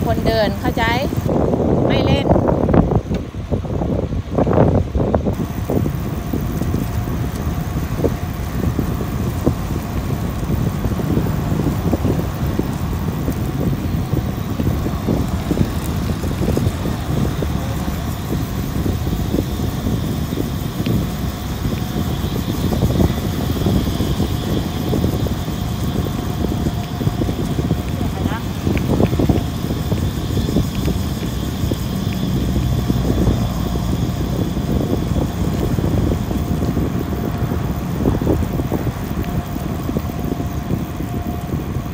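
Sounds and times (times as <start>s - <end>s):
road rumble: 0.0s - 41.9s
wind buffeting microphone: 0.0s - 41.9s.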